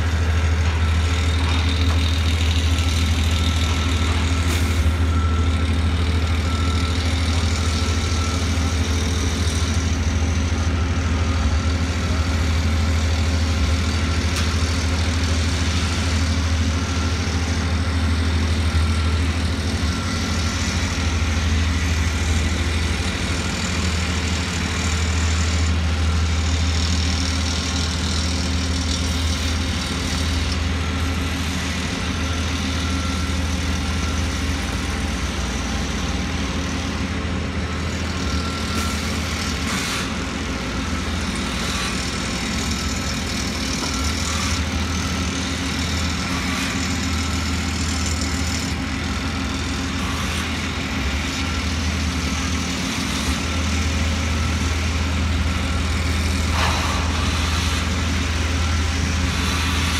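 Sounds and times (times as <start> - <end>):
large engine humming: 0.0 - 59.9.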